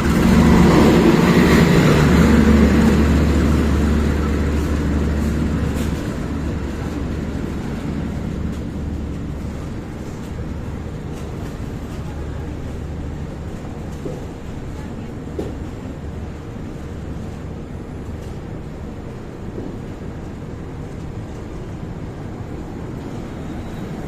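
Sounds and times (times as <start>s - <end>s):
diesel locomotive rumbling: 0.0s - 24.0s.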